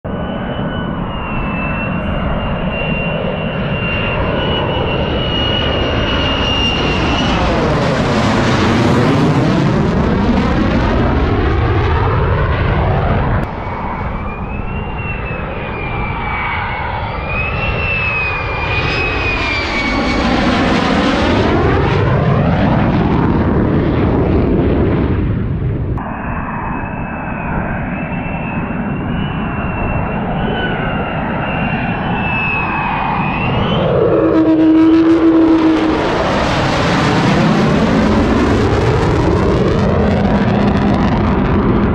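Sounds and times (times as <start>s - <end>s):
jet engines passing overhead: 0.1s - 41.9s.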